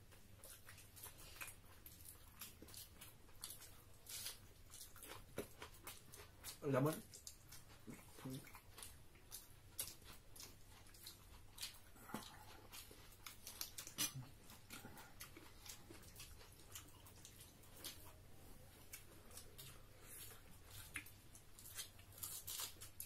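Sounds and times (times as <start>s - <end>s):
chewing: 0.0s - 23.0s
people eating with hands: 0.0s - 23.0s.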